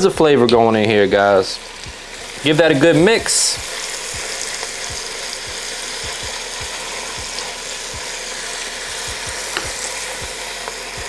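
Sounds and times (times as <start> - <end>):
onions sizzling in fat: 0.0 - 11.0.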